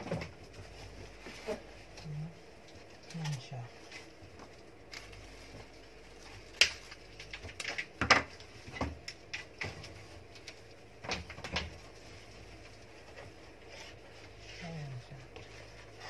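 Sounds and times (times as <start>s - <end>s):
clatter of objects: 0.0s - 14.2s.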